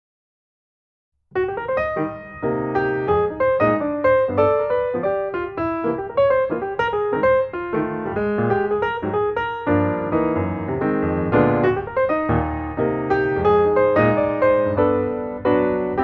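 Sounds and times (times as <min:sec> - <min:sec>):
piano music: 0:01.3 - 0:16.0.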